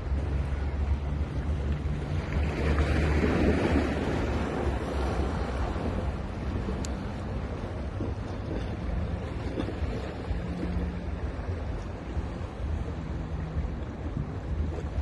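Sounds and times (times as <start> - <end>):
ocean waves breaking: 0.0 - 15.0
wind rumble on microphone: 0.0 - 15.0.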